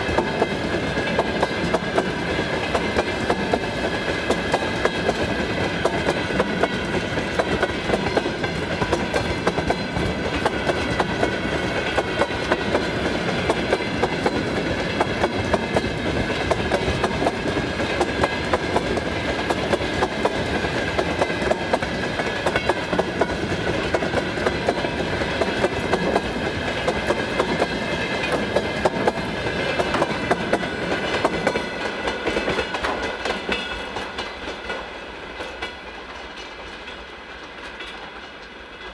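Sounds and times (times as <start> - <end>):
high whine from train wheels: 0.0 - 38.9
train wheels clicking over rail joints: 0.0 - 38.9.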